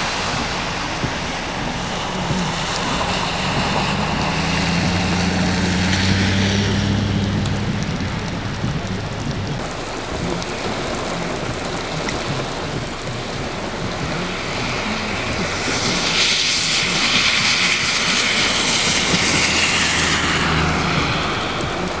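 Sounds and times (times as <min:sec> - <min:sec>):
heavy rain on pavement: 0:00.0 - 0:22.0
vehicle engine hum: 0:00.0 - 0:22.0.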